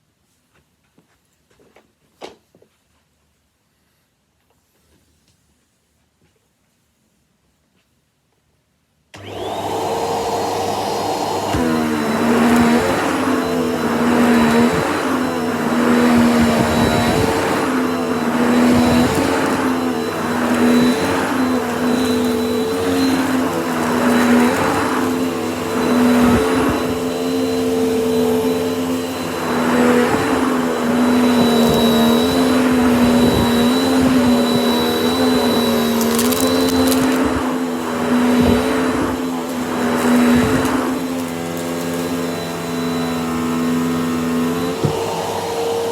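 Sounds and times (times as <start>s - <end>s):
vacuum cleaner running: 9.2s - 45.9s.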